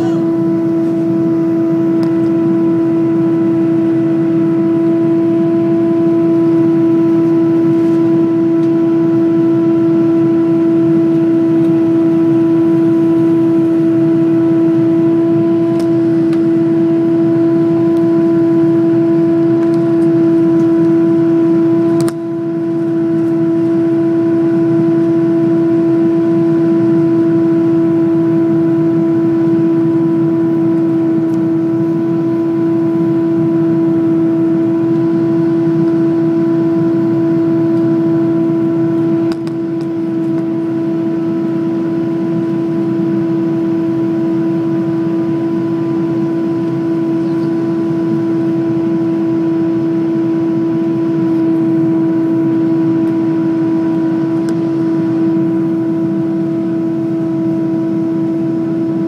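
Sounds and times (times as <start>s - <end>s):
airplane cabin hum: 0.0s - 59.0s
engine and airflow noise: 0.0s - 59.0s.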